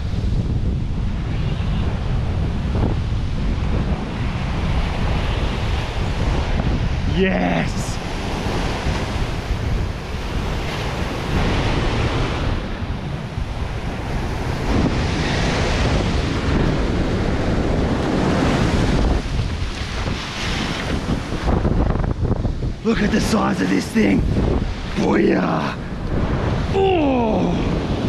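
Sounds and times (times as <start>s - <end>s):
surf washing up beach: 0.0s - 28.0s
wind buffeting microphone: 0.0s - 28.0s.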